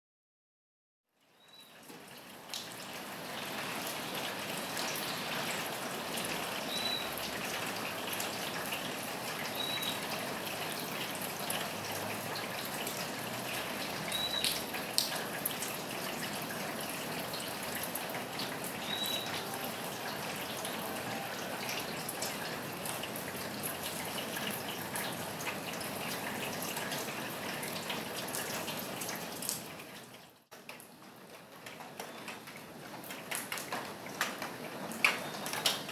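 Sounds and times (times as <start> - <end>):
rain falling on a roof: 1.2 - 35.9.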